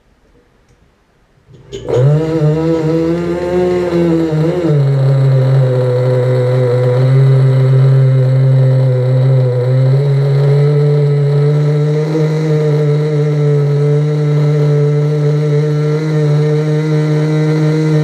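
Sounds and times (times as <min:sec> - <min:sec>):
small model car engine running: 0:01.6 - 0:18.0.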